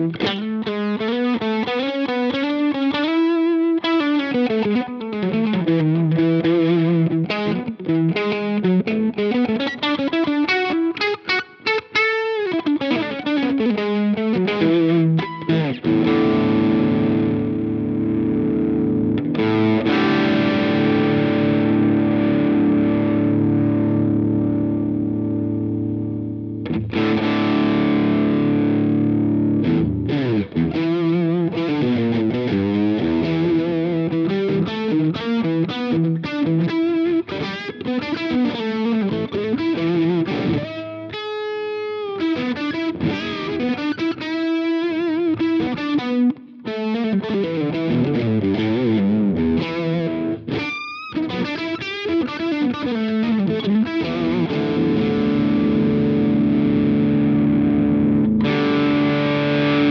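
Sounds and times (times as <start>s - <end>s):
overdriven electric guitar: 0.0s - 59.9s.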